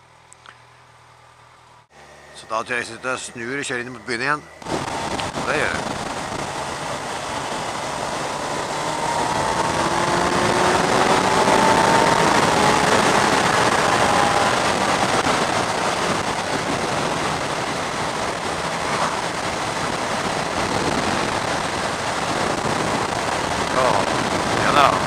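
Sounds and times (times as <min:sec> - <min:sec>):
motorcycle engine rising in pitch: 0:00.0 - 0:25.0
wind rush on microphone: 0:04.6 - 0:25.0.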